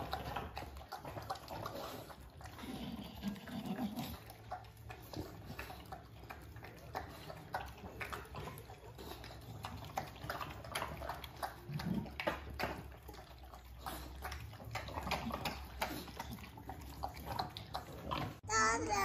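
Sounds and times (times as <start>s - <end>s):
dogs eating wet food: 0.0s - 19.0s.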